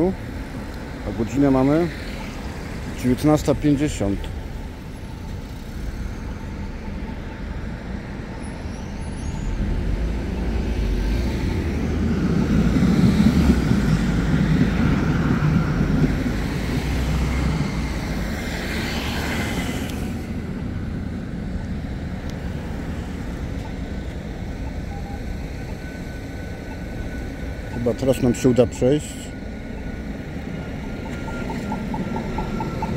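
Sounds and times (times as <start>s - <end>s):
street traffic driving past: 0.0s - 32.9s.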